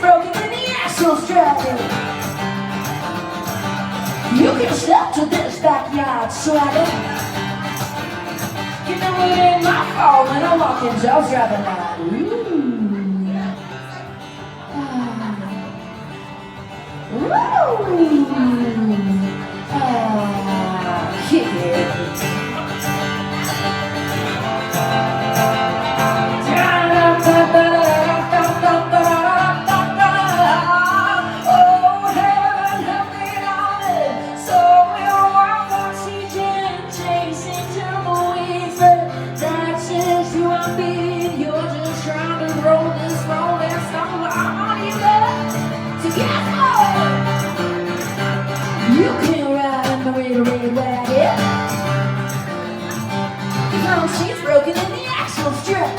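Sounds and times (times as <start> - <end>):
country band instrumental: 0.0 - 55.9
sliding lead guitar line: 0.0 - 55.9.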